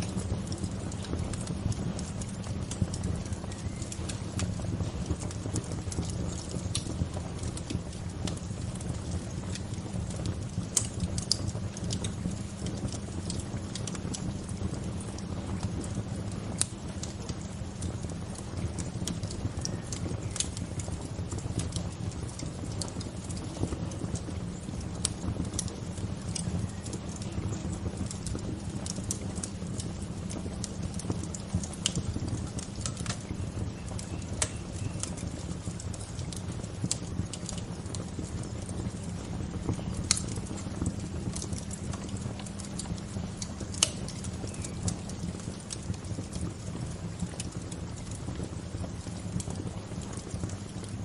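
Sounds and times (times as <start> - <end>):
bonfire crackling: 0.0 - 51.0
steady low rumble: 0.0 - 51.0.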